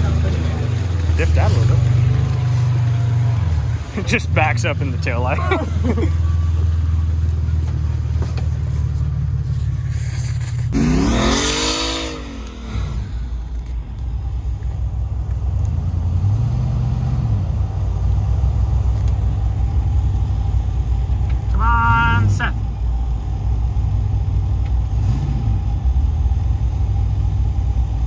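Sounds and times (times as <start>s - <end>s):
pickup truck engine running and revving: 0.0s - 28.0s.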